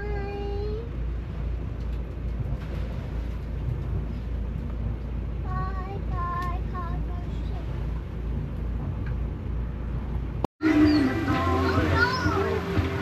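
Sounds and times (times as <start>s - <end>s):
sailboat rumble and hiss: 0.0s - 13.0s.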